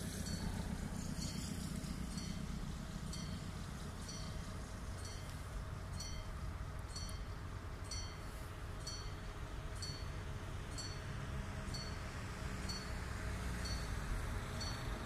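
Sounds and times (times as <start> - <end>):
level-crossing warning bell: 0.0 - 15.0
train rumble: 0.0 - 15.0.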